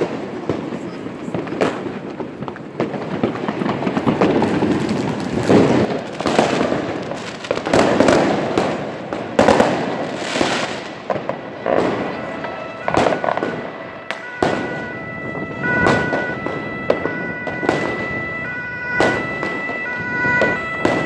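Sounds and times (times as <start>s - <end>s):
firecrackers banging and crackling: 0.0s - 21.0s.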